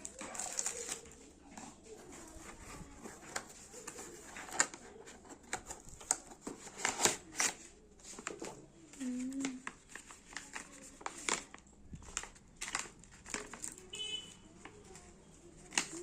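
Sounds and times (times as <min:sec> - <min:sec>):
plastic packaging rustling: 0:00.0 - 0:16.0.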